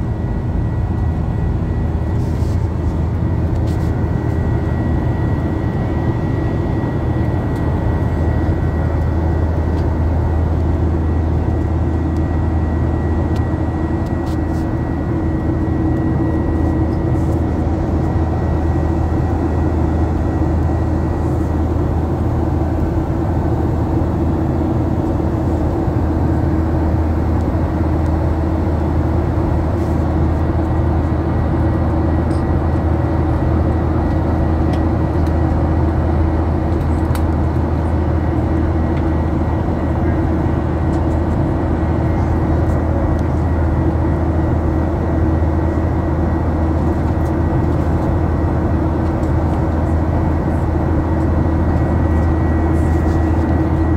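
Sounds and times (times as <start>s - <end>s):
jet engine drone: 0.0s - 53.9s.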